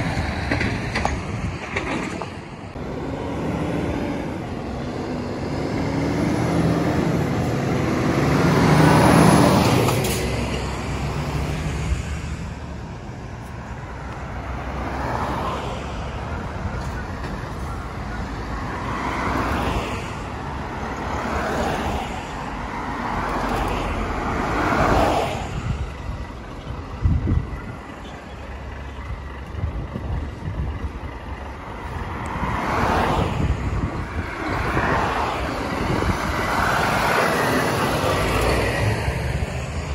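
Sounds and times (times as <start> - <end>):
cars and lorries passing: 0.0 - 39.9
lorry diesel engine passing: 0.0 - 39.9
truck approaching: 0.0 - 39.9.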